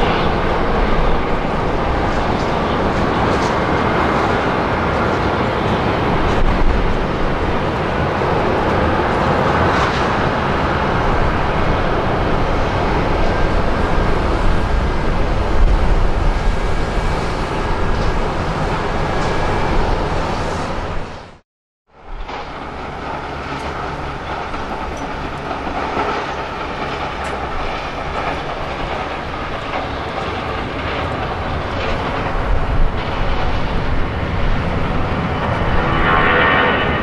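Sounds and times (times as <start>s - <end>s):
jet engines idling: 0.0s - 21.4s, 22.0s - 37.0s.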